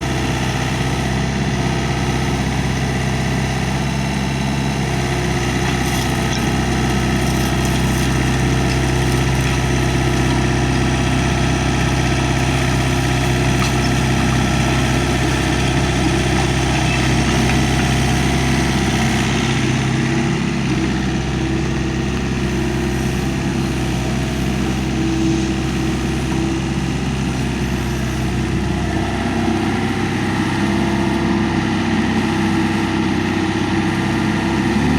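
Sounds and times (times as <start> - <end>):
excavator diesel engine idling: 0.0 - 34.9.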